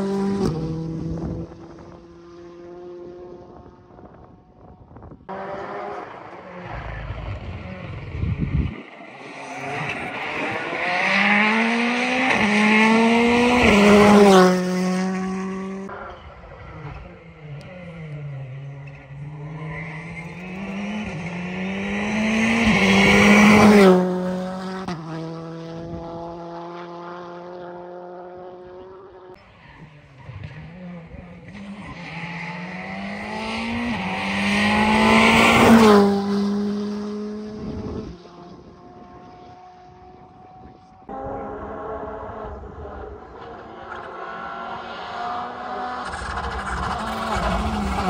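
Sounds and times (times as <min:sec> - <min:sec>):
rally cars passing at speed: 0:00.0 - 0:48.0.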